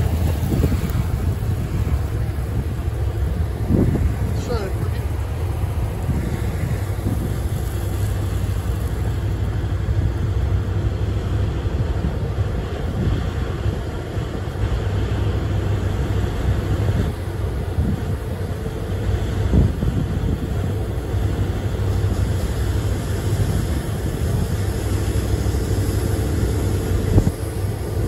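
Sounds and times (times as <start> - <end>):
diesel engines running: 0.0 - 28.0
wind rumbling on microphone: 0.0 - 28.0.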